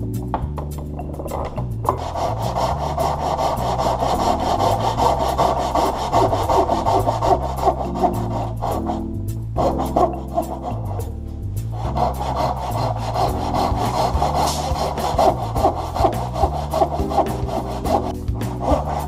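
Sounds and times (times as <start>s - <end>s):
background music with bass line: 0.0s - 19.0s
hand saw ripping wood: 1.9s - 11.1s, 11.8s - 19.0s.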